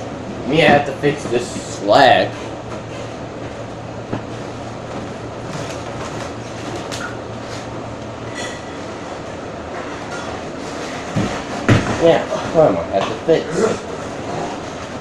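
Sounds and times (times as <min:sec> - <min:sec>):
rumbling room noise: 0:00.0 - 0:15.0.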